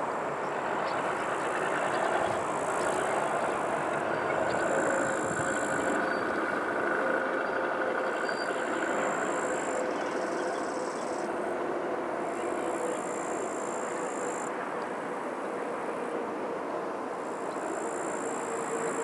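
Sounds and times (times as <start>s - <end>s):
jet engines rumbling with whine: 0.0s - 19.0s.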